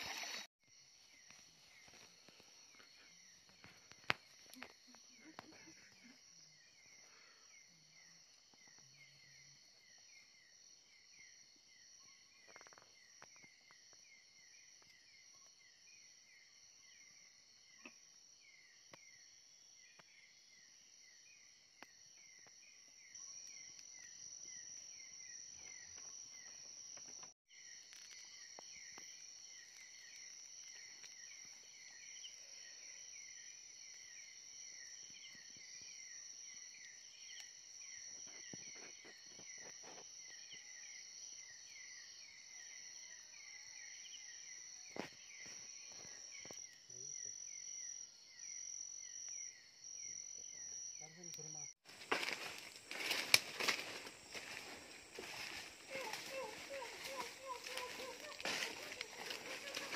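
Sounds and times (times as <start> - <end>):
high-pitched insect trill: 0.0 - 59.9.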